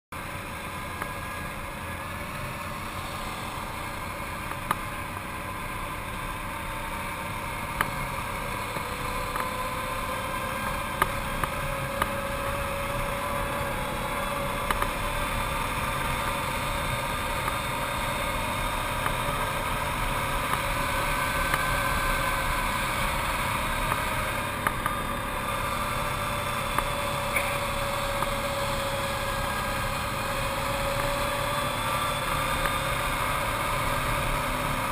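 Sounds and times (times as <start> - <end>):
atv engine running steadily: 0.1 - 34.9.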